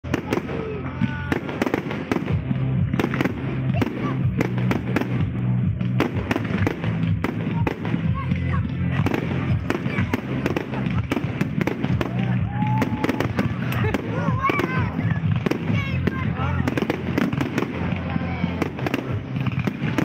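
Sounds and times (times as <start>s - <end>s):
fireworks bangs and crackles: 0.0s - 20.0s
music with bass notes: 0.9s - 20.0s.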